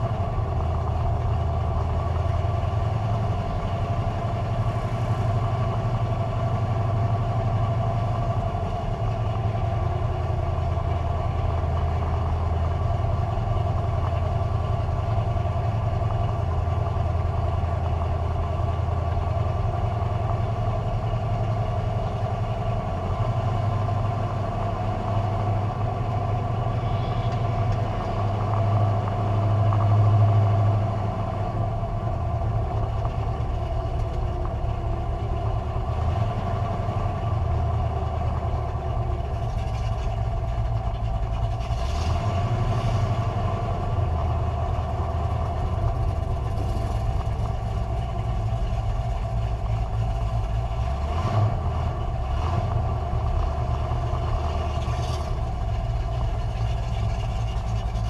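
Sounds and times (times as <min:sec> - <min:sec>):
drag car engine running: 0:00.0 - 0:58.0.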